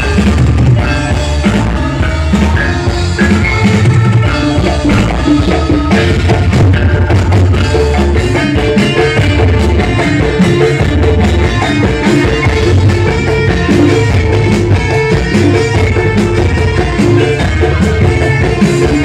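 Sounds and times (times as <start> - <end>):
music with drum beat and guitar: 0.0 - 19.0.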